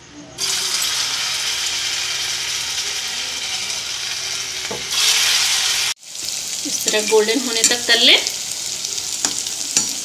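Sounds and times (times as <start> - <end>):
batter balls sizzling in hot oil: 0.4 - 10.0.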